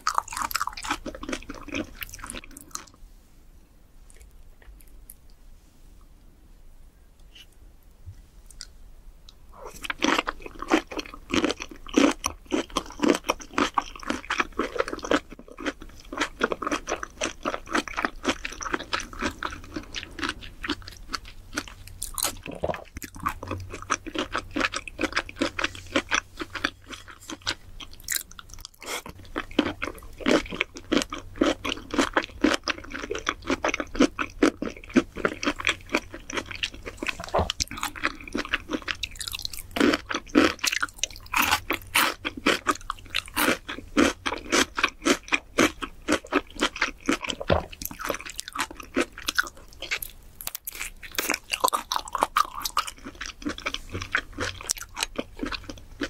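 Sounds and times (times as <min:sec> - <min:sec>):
wet crunchy chewing: 0:00.0 - 0:02.9, 0:09.6 - 0:56.0.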